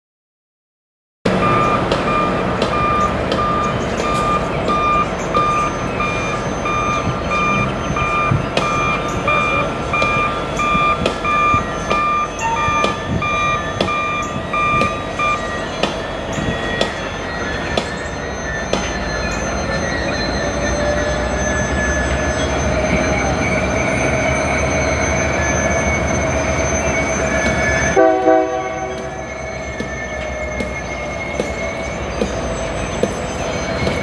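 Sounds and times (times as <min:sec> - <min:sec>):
backup alarm beeping: 0:01.3 - 0:34.0
train and machinery noise: 0:01.3 - 0:34.0.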